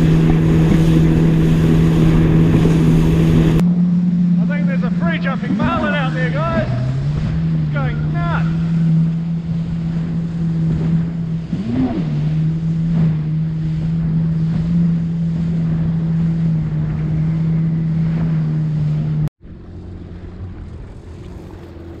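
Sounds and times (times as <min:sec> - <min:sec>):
jet ski engine running: 0:00.0 - 0:22.0
water and wind noise: 0:00.0 - 0:22.0.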